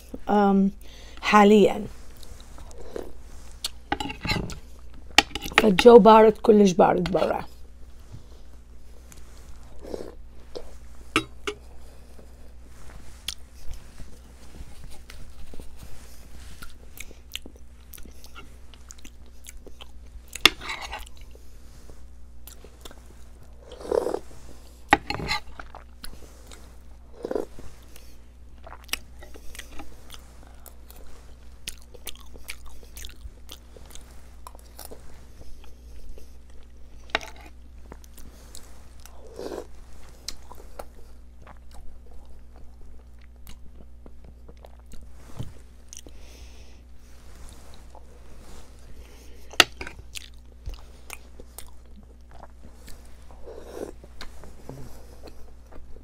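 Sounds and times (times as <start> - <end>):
steady low hum: 0.0 - 56.0
person chewing: 2.0 - 5.6, 13.0 - 24.6, 25.2 - 56.0.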